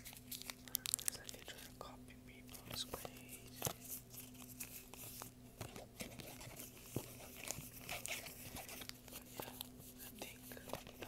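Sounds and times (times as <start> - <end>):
playing cards clicking and crackling: 0.0 - 1.8, 2.5 - 11.0
faint steady hum: 0.0 - 11.0.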